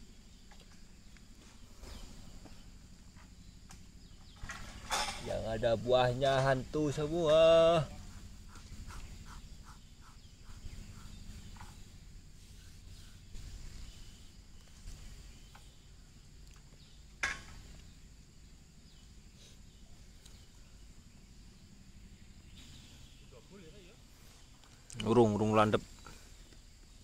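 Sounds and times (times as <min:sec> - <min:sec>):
faint chirps: 0:00.0 - 0:27.0.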